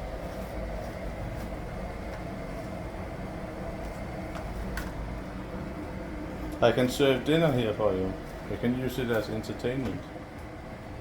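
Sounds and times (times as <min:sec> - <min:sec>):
washing machine rumble and hum: 0:00.0 - 0:11.0.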